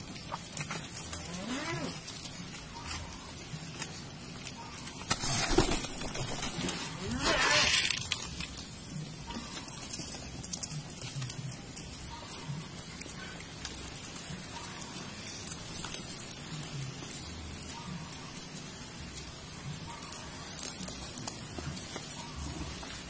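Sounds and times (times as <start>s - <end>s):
corn rustling: 0.0s - 23.0s
pigeons pecking grain: 0.0s - 23.0s.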